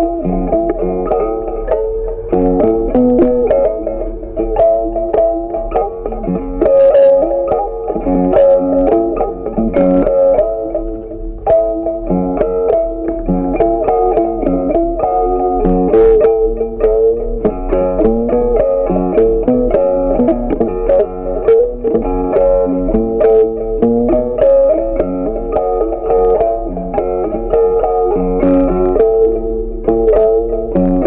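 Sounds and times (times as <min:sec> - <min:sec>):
plucked guitar tune: 0:00.0 - 0:31.0.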